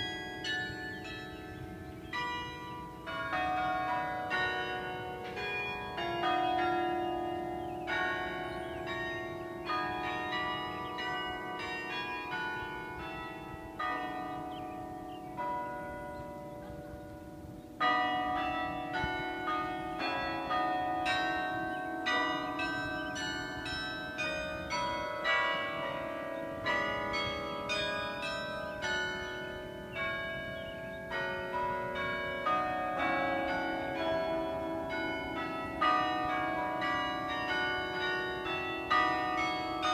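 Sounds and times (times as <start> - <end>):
carillon bells playing a tune: 0.0 - 39.9.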